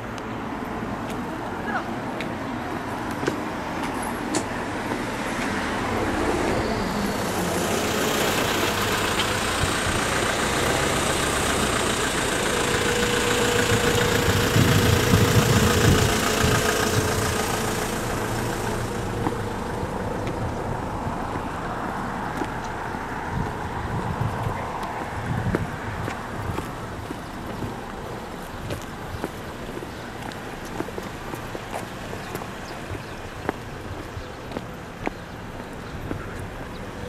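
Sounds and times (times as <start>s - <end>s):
large vehicle passing: 2.5s - 37.0s.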